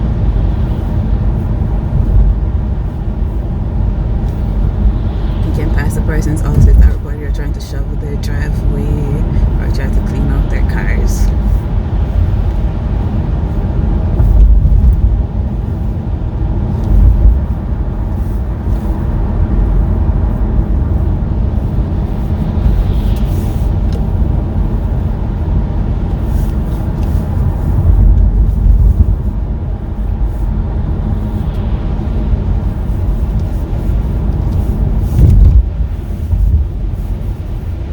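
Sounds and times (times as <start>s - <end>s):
tyre noise on road: 0.0s - 5.5s, 11.3s - 37.9s
car engine rumble: 0.0s - 37.9s.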